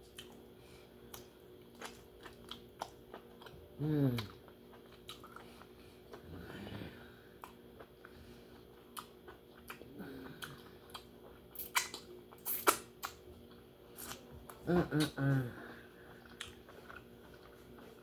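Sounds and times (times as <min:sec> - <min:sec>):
chewing and mouth sounds: 0:00.0 - 0:15.3, 0:15.9 - 0:18.0.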